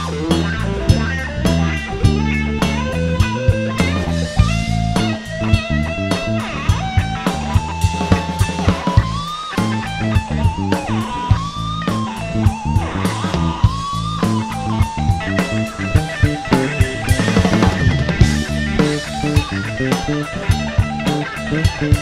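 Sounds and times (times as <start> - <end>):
bass guitar: 0.0 - 22.0
drum kit steady beat: 0.0 - 22.0
electric guitar solo: 0.0 - 22.0.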